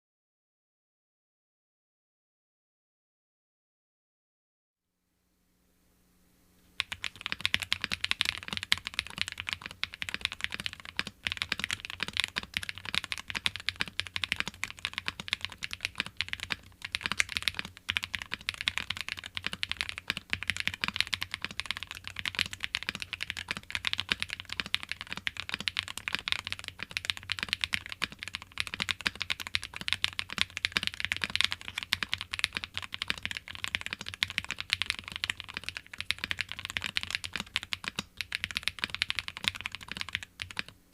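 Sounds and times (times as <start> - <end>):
fast typing on mechanical keyboard: 6.8 - 40.8.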